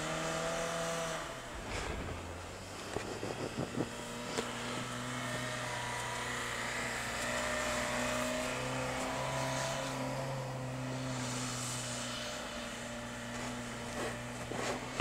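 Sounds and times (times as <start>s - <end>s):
car engine at steady revs: 0.0s - 15.0s.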